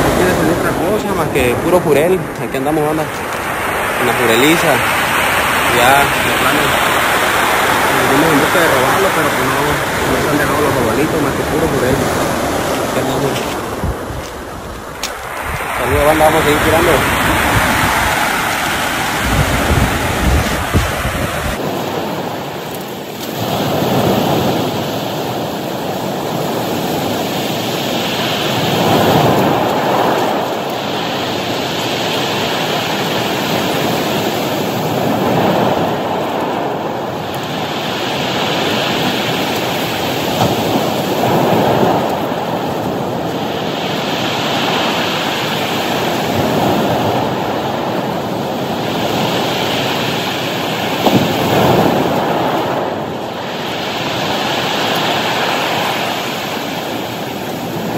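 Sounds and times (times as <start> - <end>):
surf washing up pebble beach: 0.0 - 57.9.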